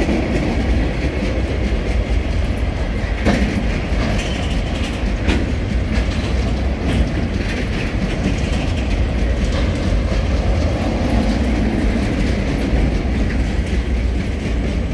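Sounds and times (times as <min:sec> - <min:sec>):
freight train wagons rolling: 0:00.0 - 0:14.9
wheel clicks on rails: 0:00.1 - 0:14.9.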